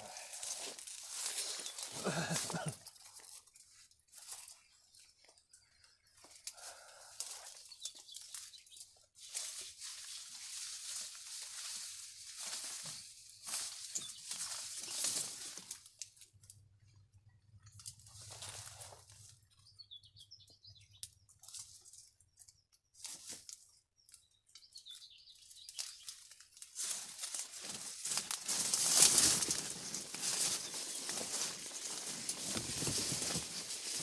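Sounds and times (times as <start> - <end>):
reed stalks rustling and crackling: 0.0 - 16.6, 17.6 - 19.5, 20.9 - 34.0.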